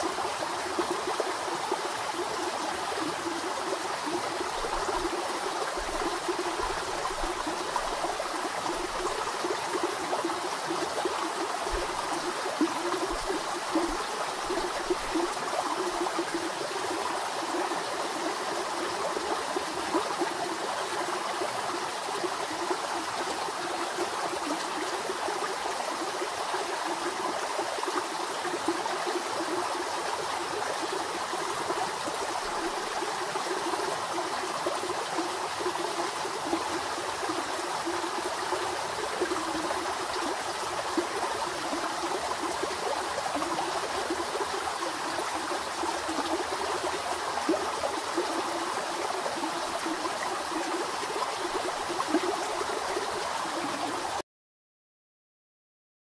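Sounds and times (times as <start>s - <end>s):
stream flowing over stones: 0.0s - 54.2s.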